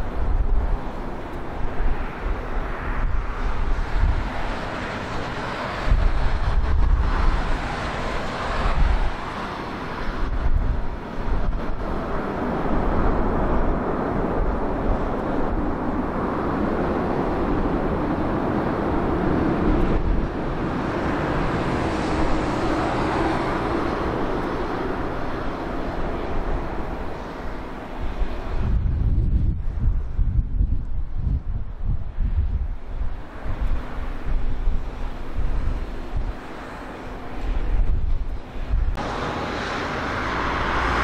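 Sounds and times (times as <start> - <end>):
jet engine rushing: 0.0 - 28.9, 33.1 - 41.0
wind buffeting microphone: 0.0 - 41.0.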